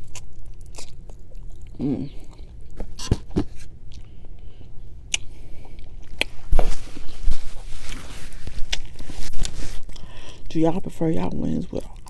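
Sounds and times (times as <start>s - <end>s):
person chewing food: 0.0s - 10.5s.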